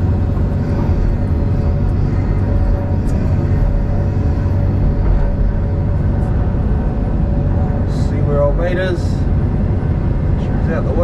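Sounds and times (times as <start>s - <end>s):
faint steady hum: 0.0s - 11.0s
log processor engine droning: 0.0s - 11.0s.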